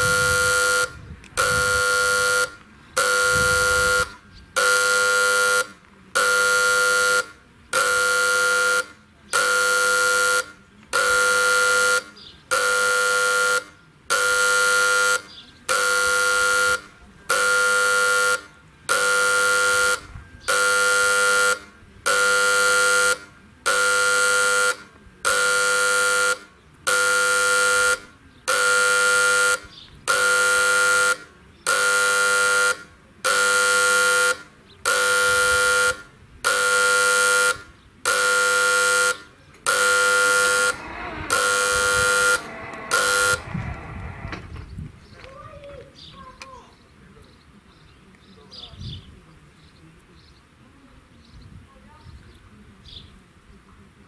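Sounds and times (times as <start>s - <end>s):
level crossing buzzer blasts: 0.0s - 44.4s.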